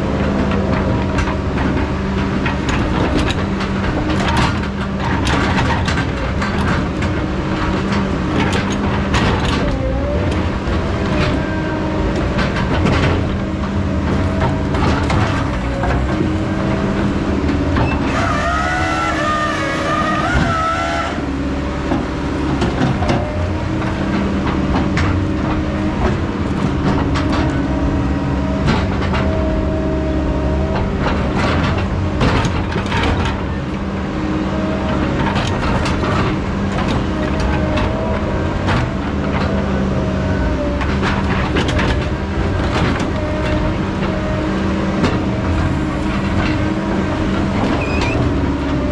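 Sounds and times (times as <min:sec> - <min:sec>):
diesel machinery running: 0:00.0 - 0:48.9.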